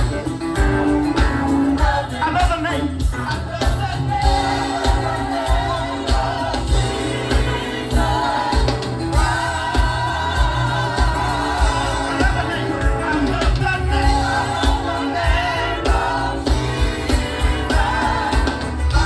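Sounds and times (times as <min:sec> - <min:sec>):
band with bass-heavy beat: 0:00.0 - 0:19.0
choir singing: 0:01.1 - 0:02.5, 0:04.0 - 0:19.0.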